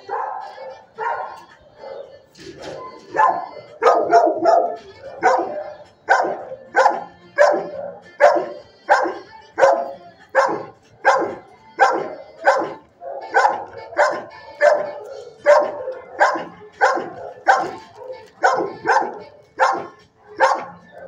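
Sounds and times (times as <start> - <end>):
dog barking: 0.0 - 21.0.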